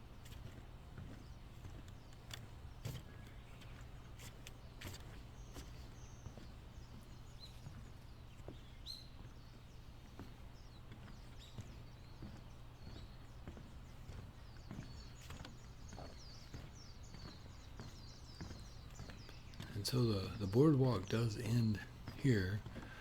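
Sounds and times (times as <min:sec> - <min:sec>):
footsteps on wooden boardwalk: 0:00.0 - 0:23.0
faint bird chirps: 0:00.4 - 0:23.0.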